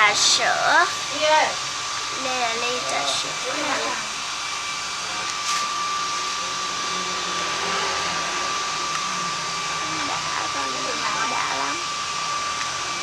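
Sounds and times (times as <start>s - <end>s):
high whine: 0.0s - 12.8s.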